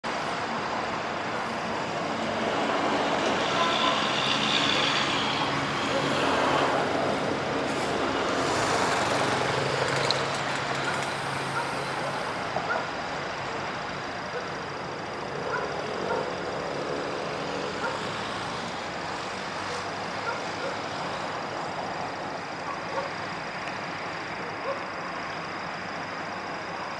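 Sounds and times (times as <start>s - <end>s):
vehicle engine and tyre noise: 0.0s - 26.9s.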